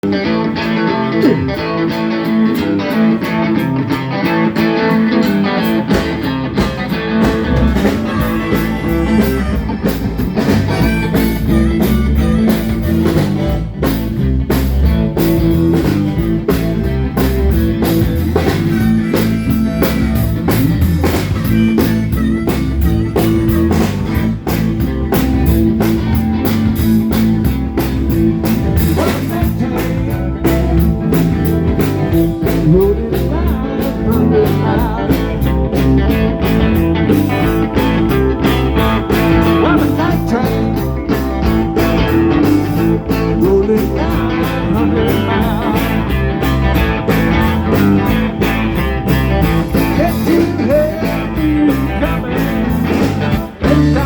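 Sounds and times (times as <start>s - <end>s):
bass guitar: 0.0s - 54.0s
drums: 0.0s - 54.0s
electric guitar: 0.0s - 54.0s.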